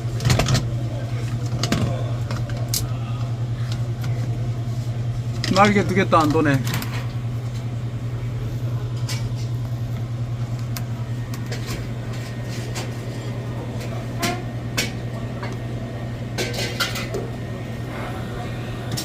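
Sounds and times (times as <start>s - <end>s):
refrigerator humming: 0.0s - 19.0s.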